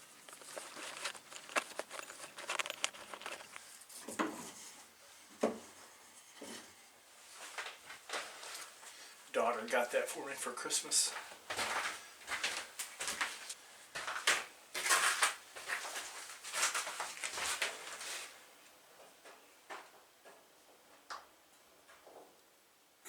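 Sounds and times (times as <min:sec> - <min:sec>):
objects rustling and clattering: 0:00.0 - 0:09.2, 0:11.1 - 0:21.1.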